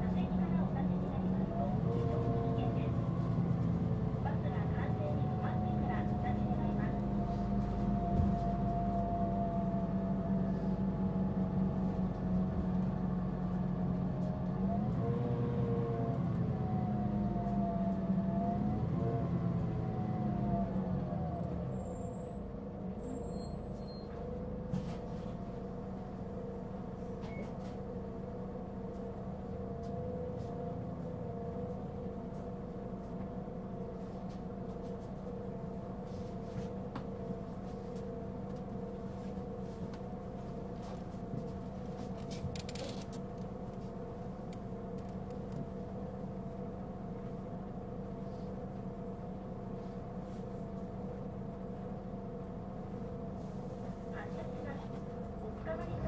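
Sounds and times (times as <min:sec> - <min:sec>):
bus diesel engine humming: 0:00.0 - 0:56.0.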